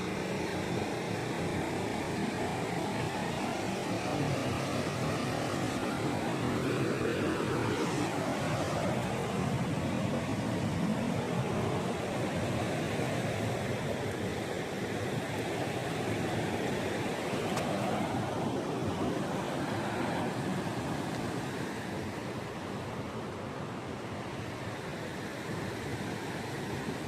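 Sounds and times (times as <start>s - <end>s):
ocean surf washing on beach: 0.0s - 27.0s.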